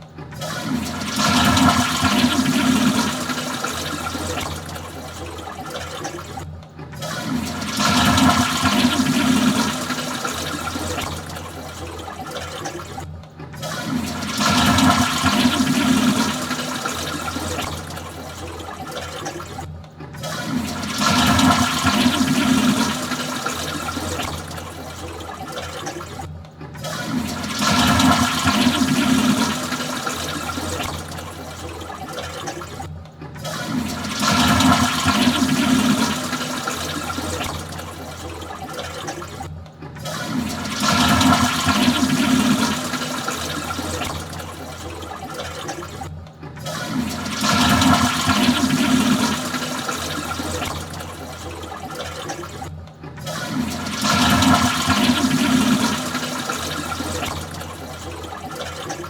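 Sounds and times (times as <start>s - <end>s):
toilet flushing: 0.0s - 59.0s.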